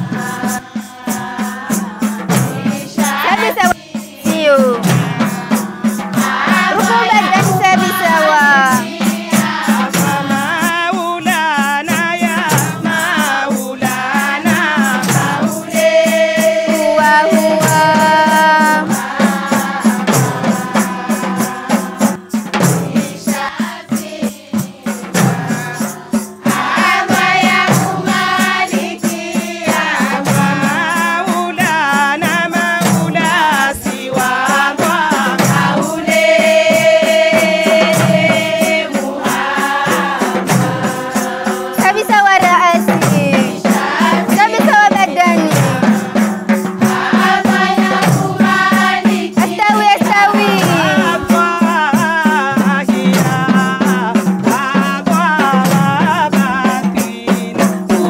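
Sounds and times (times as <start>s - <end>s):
choir chanting in unison: 0.0s - 42.1s, 42.8s - 58.0s
frame drums beating: 0.0s - 58.0s
jingling tambourines: 0.0s - 58.0s.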